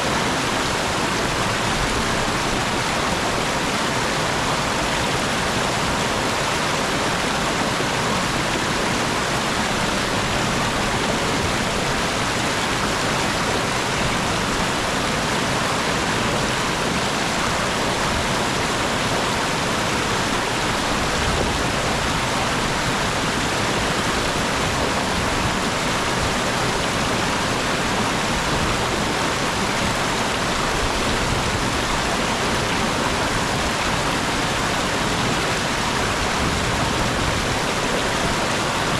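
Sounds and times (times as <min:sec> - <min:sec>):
stream rushing over waterfall: 0:00.0 - 0:38.9.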